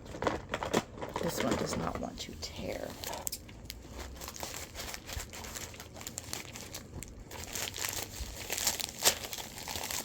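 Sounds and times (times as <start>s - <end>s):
packaging crinkling and tearing: 0.0s - 10.0s.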